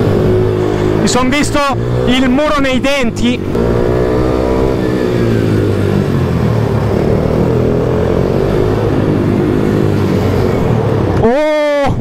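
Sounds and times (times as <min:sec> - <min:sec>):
pit bike engine running: 0:00.0 - 0:11.2.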